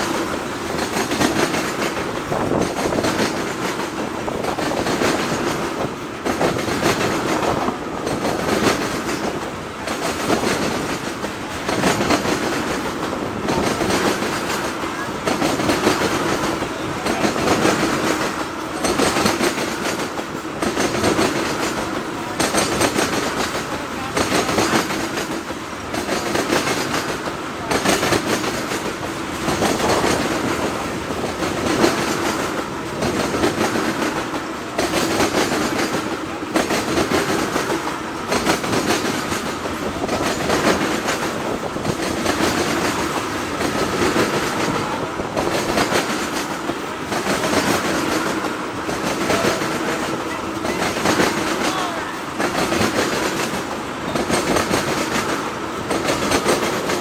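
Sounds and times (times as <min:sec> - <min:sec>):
freight train rumble: 0:00.0 - 0:57.0
train wheels clacking over rail joints: 0:00.0 - 0:57.0.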